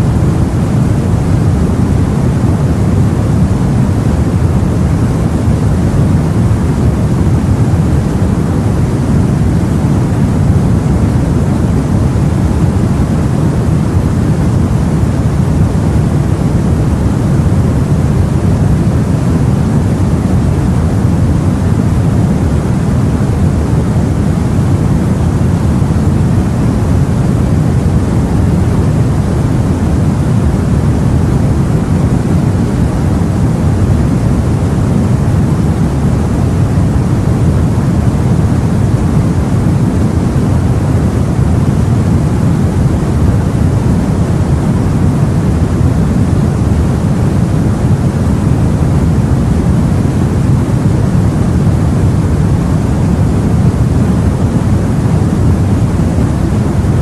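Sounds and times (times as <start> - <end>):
low rumbling sea noise: 0.0 - 57.0.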